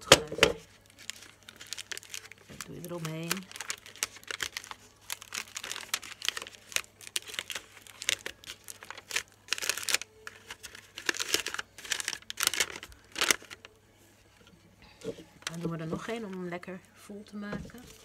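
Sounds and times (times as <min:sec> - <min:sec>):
paper crumpling and crinkling: 0:00.0 - 0:16.4, 0:17.6 - 0:18.0.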